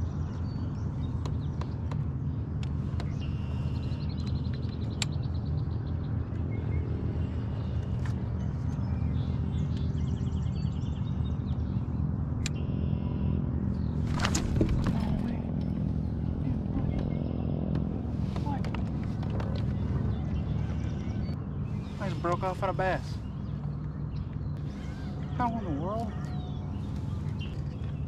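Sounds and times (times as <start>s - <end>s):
low engine drone: 0.0s - 28.0s
songbirds chirping: 0.0s - 28.0s.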